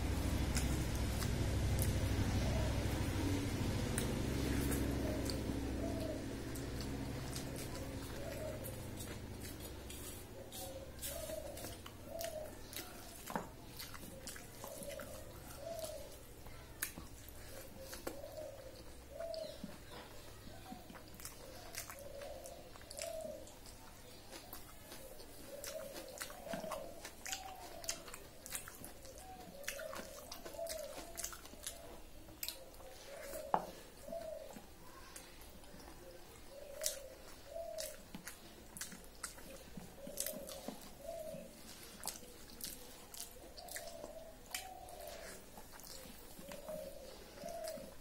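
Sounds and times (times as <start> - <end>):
bird cooing: 0.0 - 48.0
chewing and wet mouth sounds: 0.0 - 48.0.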